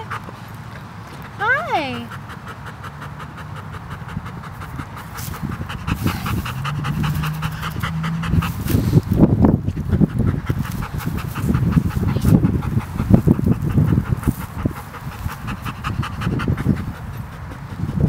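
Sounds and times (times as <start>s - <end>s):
rapid panting: 1.2s - 18.0s.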